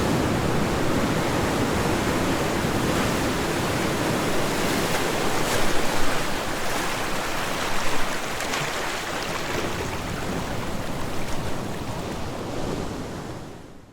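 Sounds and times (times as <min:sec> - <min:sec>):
sea waves washing onto shore: 0:00.0 - 0:12.9.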